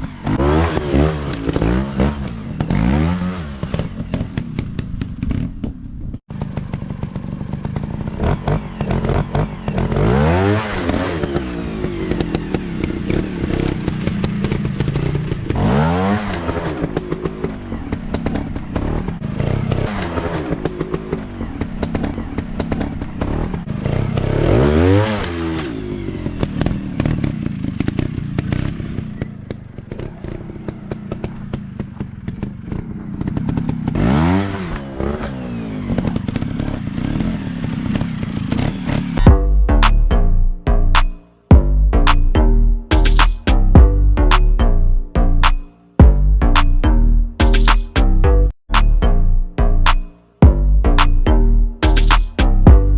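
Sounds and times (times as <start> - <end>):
dirt bike engine revving: 0.0 - 4.9, 6.3 - 52.9.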